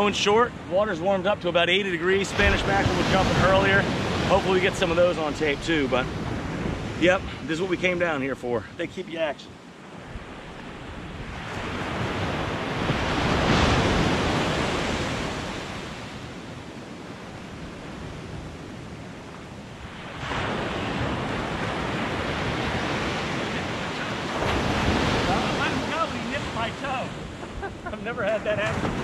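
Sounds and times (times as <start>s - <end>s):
surf washing up beach: 0.0s - 29.0s.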